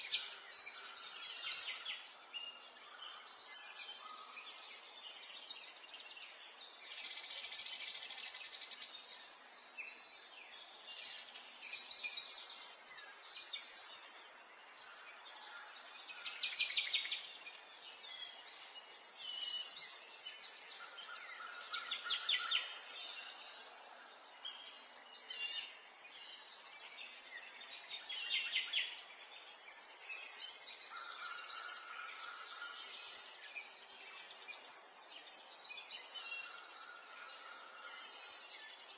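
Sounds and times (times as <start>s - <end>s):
wild birds trilling: 0.0s - 38.9s.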